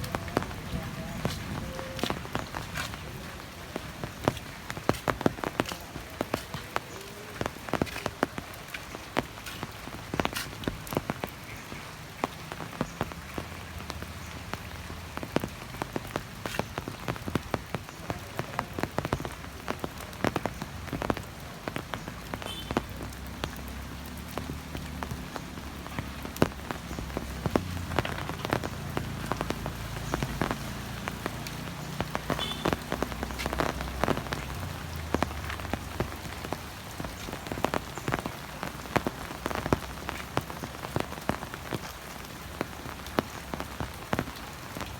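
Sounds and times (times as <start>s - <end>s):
heavy rain falling: 0.0s - 44.9s
raindrops hitting close by: 0.0s - 44.9s.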